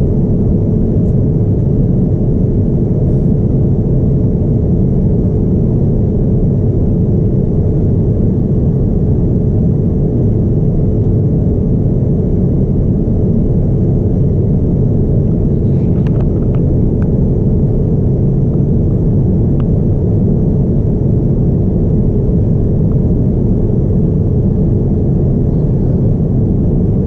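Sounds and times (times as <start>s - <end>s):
aircraft cabin rumble: 0.0s - 27.0s.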